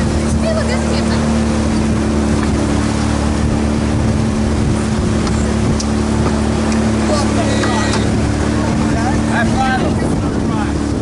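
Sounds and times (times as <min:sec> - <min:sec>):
outboard motor running: 0:00.0 - 0:11.0
water rushing: 0:00.0 - 0:11.0
wind: 0:00.0 - 0:11.0.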